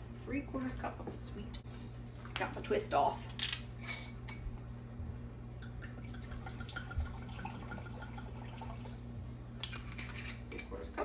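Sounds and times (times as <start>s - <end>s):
small kitchen sounds: 0.0s - 11.0s
steady low hum: 0.0s - 11.0s.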